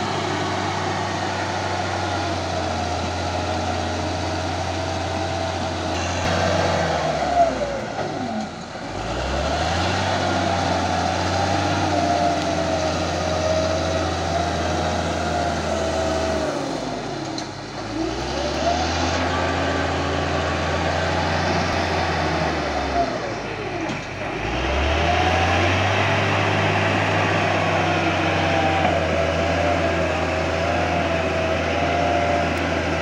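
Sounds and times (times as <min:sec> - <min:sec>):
bulldozer diesel engine under load: 0:00.0 - 0:33.0.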